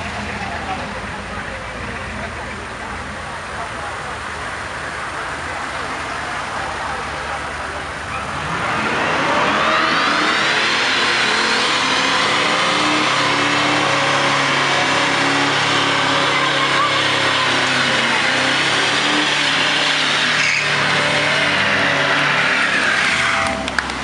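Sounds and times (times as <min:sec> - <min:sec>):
engine at high revs: 0:00.0 - 0:24.0
tyres screeching on asphalt: 0:00.0 - 0:24.0.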